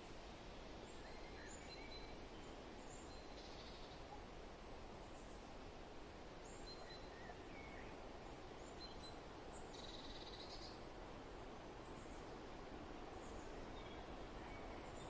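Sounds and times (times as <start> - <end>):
soft wind: 0.0 - 15.0.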